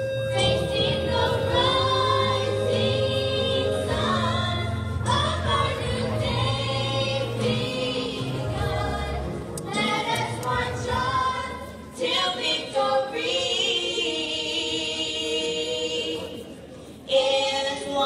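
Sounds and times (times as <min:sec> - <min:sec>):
girls singing together: 0:00.3 - 0:16.5.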